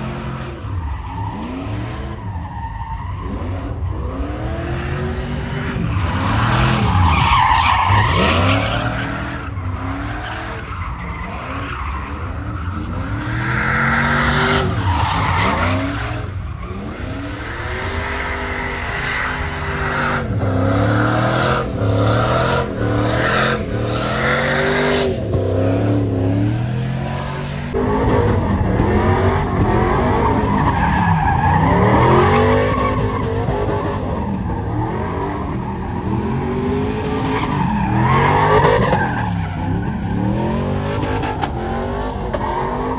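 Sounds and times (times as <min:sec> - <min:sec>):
vehicle engine revving: 0:07.7 - 0:42.9.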